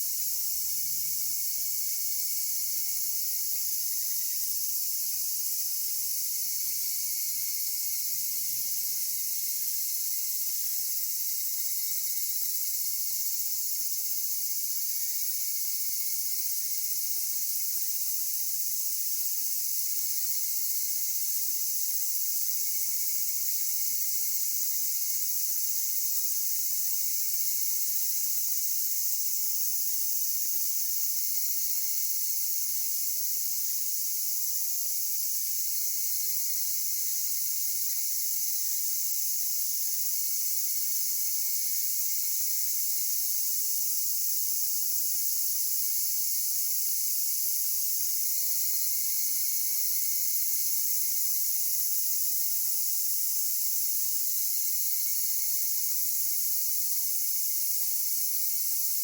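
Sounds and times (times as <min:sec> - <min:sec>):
insects singing: 0:00.0 - 0:59.0.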